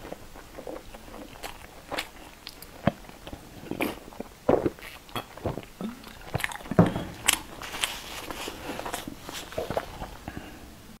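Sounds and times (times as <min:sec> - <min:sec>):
person gulping a drink: 0:00.0 - 0:10.5
wet swallowing and mouth sounds: 0:00.0 - 0:10.5.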